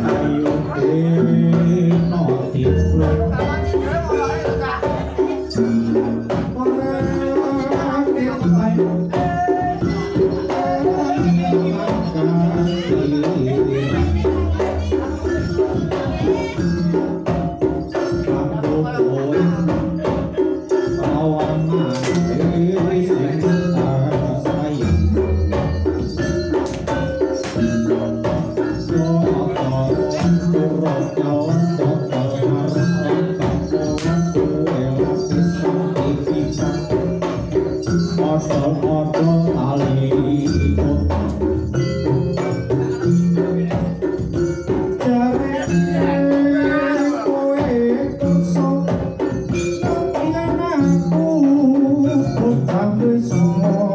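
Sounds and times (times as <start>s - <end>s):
fast drumming: 0.0s - 53.9s
jingling percussion: 0.0s - 53.9s
tuned metallic tones: 0.0s - 53.9s.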